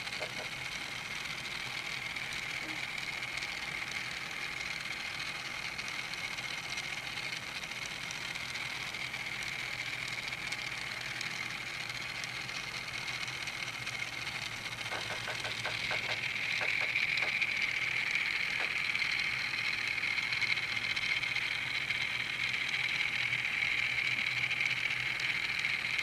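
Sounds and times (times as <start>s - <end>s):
toy train motor whine: 0.0s - 26.0s.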